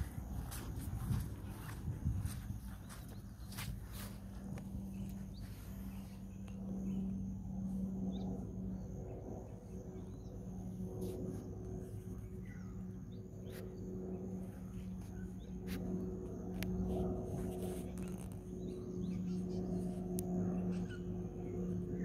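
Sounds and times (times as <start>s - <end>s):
steady low drone: 0.0s - 22.0s.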